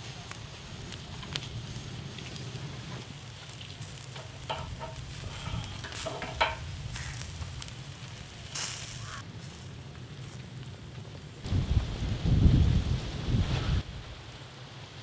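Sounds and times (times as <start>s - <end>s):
steady low rumble: 0.0s - 14.4s
chicken sizzling and crackling: 0.0s - 15.0s.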